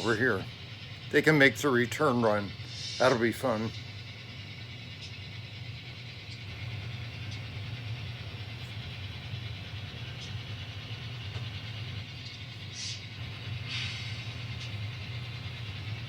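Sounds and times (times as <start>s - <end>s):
model locomotive engine running: 0.0s - 16.0s.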